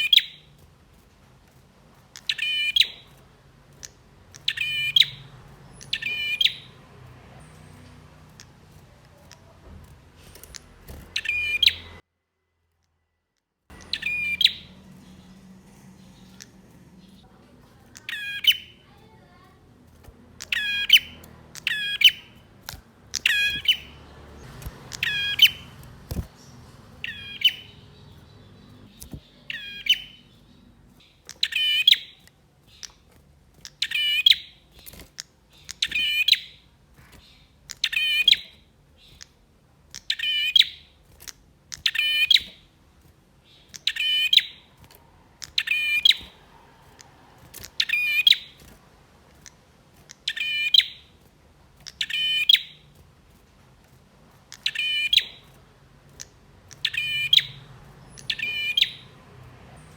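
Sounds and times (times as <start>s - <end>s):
bird chirping: 0.0s - 12.0s, 13.7s - 53.2s, 54.3s - 59.9s.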